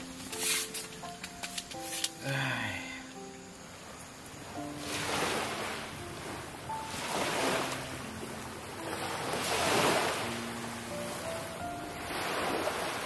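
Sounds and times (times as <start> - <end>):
sea waves washing on beach: 1.7 - 13.0.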